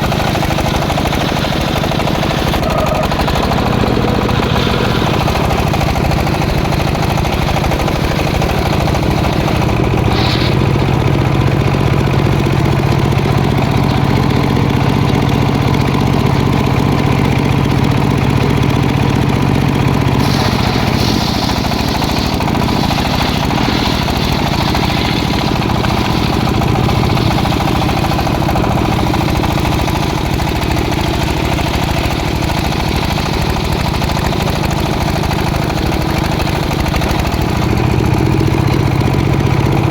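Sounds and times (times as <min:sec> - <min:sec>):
sawmill saw engine running: 0:00.0 - 0:39.9.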